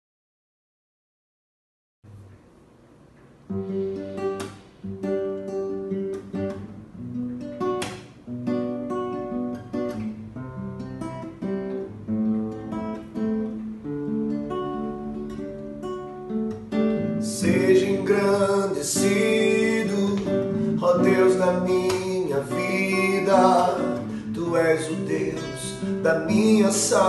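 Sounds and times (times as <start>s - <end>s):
acoustic guitar strumming chords: 3.4s - 27.0s.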